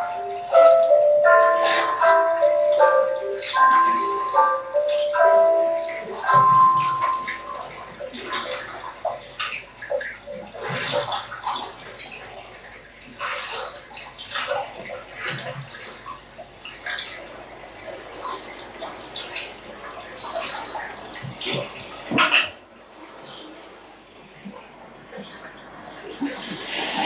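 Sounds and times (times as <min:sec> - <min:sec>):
water splashing and dripping: 0:00.0 - 0:27.0.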